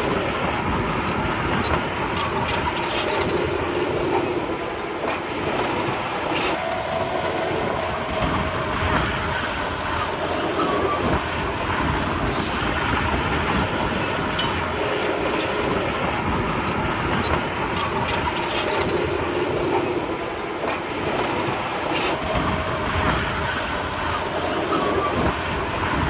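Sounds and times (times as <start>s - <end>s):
diesel engine under load: 0.0s - 26.0s
steel tracks clanking: 0.0s - 26.0s.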